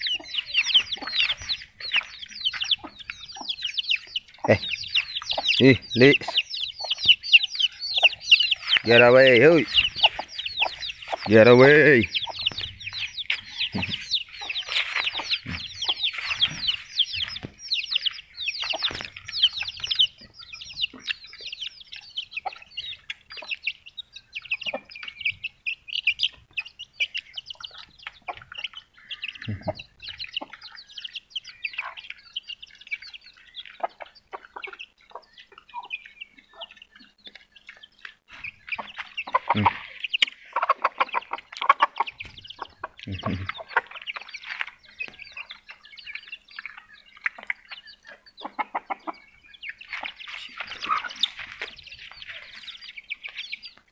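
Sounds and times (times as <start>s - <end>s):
chickens clucking: 0.0s - 53.9s
small birds chirping: 0.0s - 53.9s.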